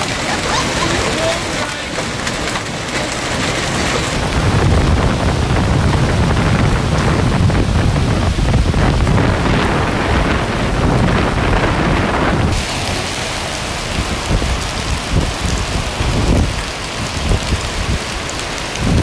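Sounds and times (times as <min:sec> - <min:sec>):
hailstones pelting a road: 0:00.0 - 0:19.0
heavy rain: 0:00.0 - 0:19.0.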